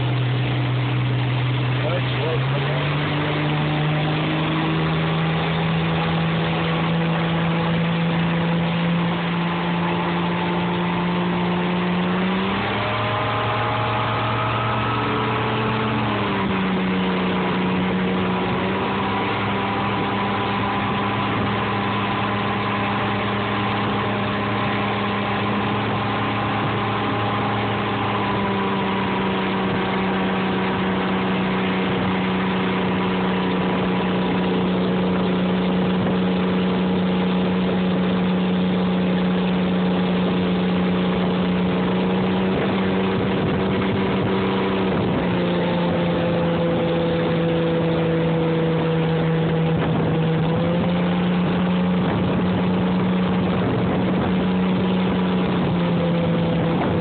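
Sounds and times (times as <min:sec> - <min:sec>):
motorboat engine running: 0:00.0 - 0:57.0
water churning: 0:00.0 - 0:57.0.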